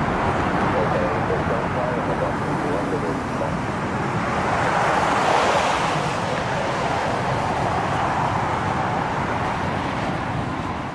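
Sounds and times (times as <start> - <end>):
jet engine roar: 0.0 - 10.9.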